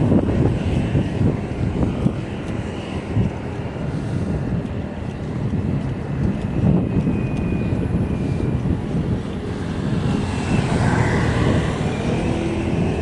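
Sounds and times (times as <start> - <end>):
bike rolling road noise: 0.0 - 13.0
wind on microphone: 0.0 - 13.0.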